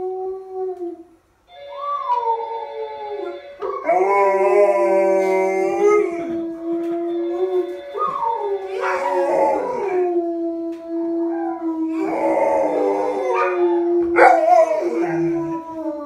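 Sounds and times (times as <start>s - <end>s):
dogs howling: 1.7s - 16.0s.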